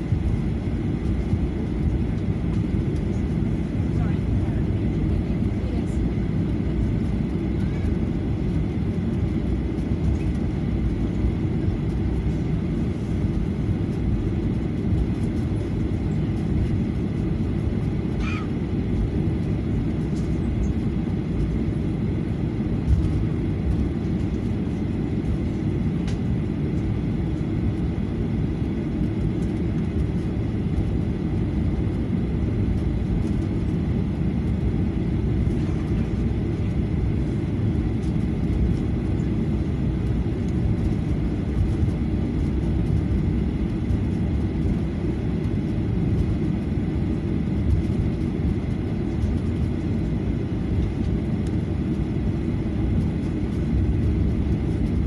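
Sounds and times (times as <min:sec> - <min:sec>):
jet engines low rumble: 0:00.0 - 0:55.0.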